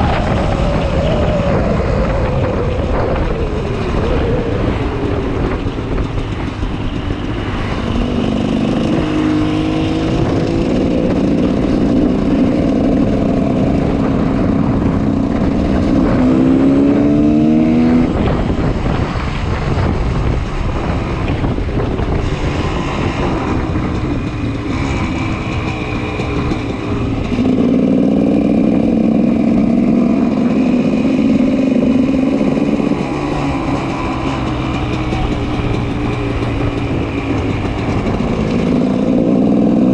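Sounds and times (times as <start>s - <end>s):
two-stroke engine revving: 4.2s - 39.9s.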